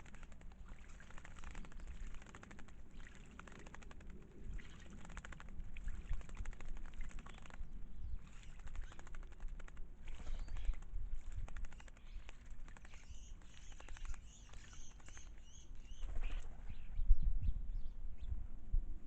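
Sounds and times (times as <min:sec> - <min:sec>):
birds splashing in water: 0:00.0 - 0:16.8.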